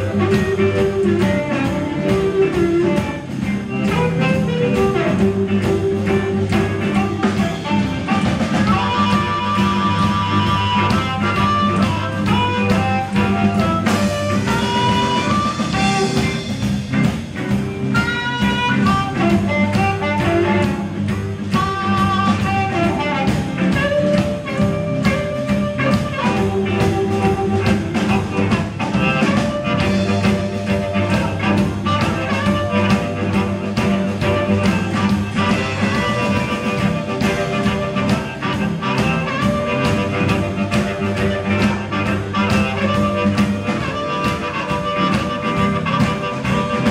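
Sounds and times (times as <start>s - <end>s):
amplified harmonica lead: 0.0s - 46.9s
blues band playing: 0.0s - 46.9s.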